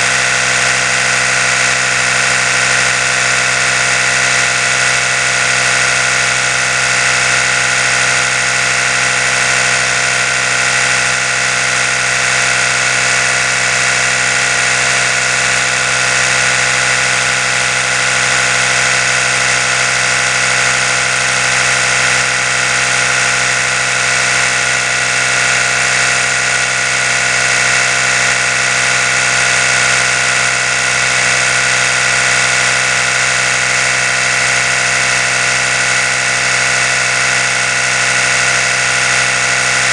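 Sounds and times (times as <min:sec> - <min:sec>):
electric toothbrush humming: 0:00.0 - 0:39.9.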